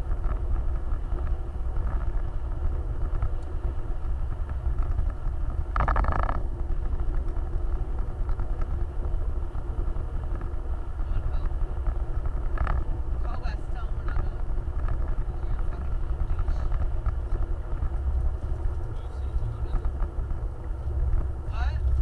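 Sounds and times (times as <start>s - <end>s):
off-road vehicle engine rumble: 0.0s - 22.0s.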